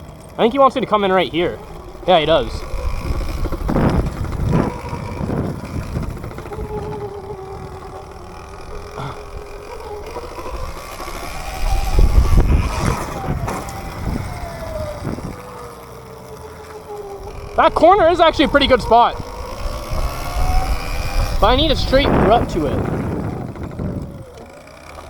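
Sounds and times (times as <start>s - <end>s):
electric motor whining: 0.0s - 25.0s
rough rumbling of wind: 0.0s - 25.0s.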